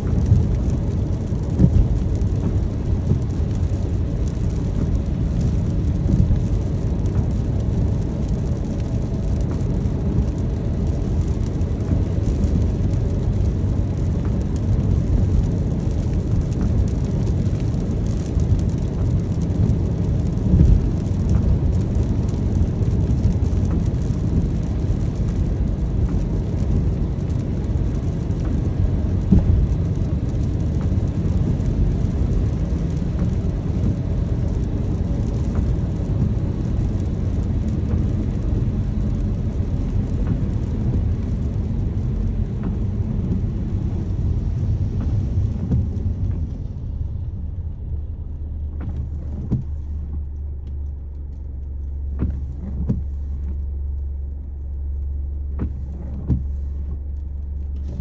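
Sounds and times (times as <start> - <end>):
hiss of rain and tyre spray: 0.0 - 58.0
road rumble: 0.0 - 58.0.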